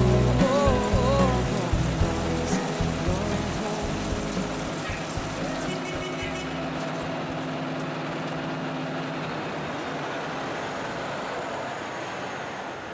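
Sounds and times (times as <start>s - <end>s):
diesel machinery rumble: 0.0s - 12.9s.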